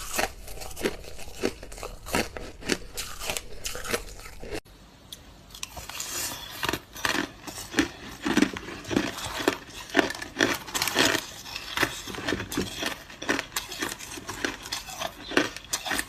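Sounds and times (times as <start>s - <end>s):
ice being chewed: 0.0s - 4.6s, 5.5s - 16.0s.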